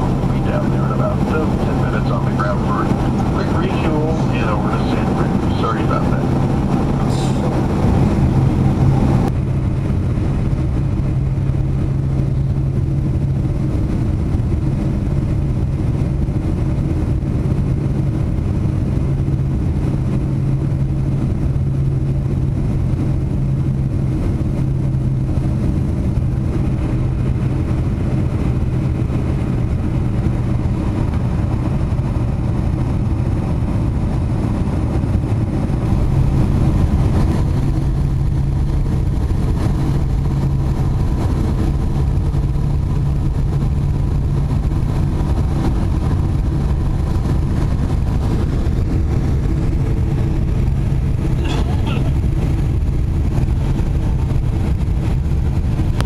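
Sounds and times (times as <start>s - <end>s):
rushing air: 0.0s - 19.5s, 21.6s - 56.0s
constant low hum: 0.0s - 56.0s
jet engines droning in cabin: 0.0s - 56.0s.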